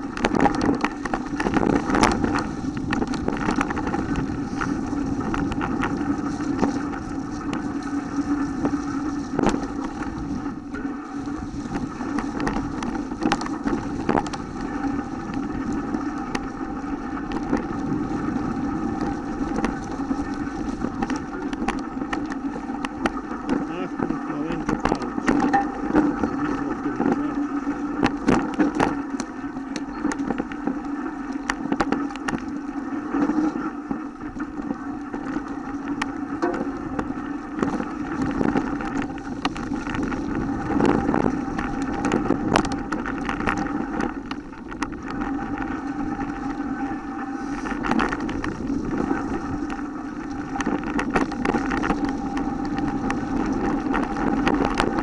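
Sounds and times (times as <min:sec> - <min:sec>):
bike rattling over bumps: 0:00.0 - 0:55.0
bike tyres rumbling on dirt: 0:00.0 - 0:55.0.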